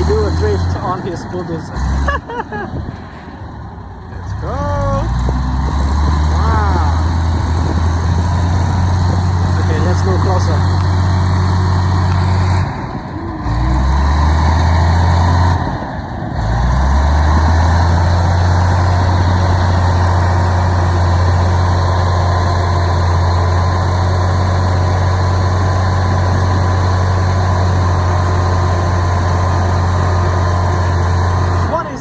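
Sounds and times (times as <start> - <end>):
bulldozer diesel engine drone: 0.0 - 32.0.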